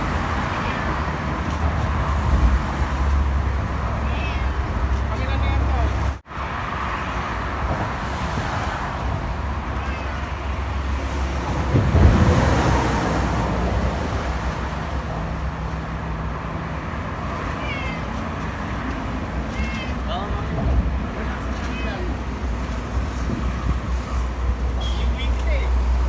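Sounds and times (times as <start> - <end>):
road traffic: 0.0 - 26.0
wind rumble: 0.0 - 26.0.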